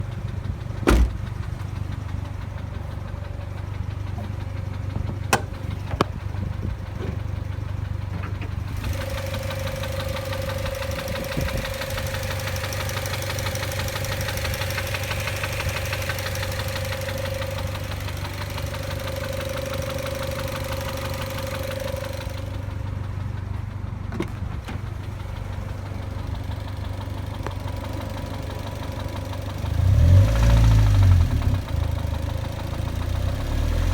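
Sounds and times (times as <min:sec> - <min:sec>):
fast bright rattle with whine: 0:00.0 - 0:29.6
car engine idling with knocking rattle: 0:00.0 - 0:33.9.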